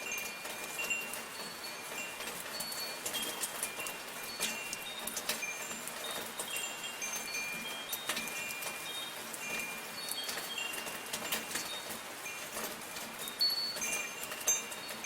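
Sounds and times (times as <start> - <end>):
light rain hiss: 0.0 - 15.0
metal wind chimes ringing: 0.0 - 15.0.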